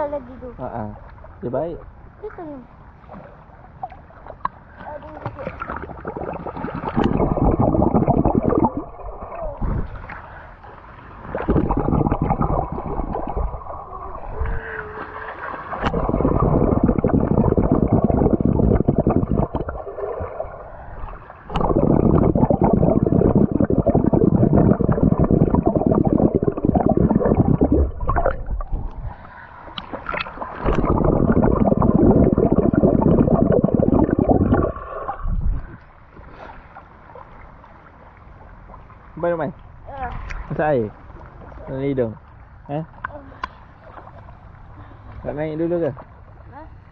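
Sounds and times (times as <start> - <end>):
underwater rumbling and bubbling: 3.5 - 43.1.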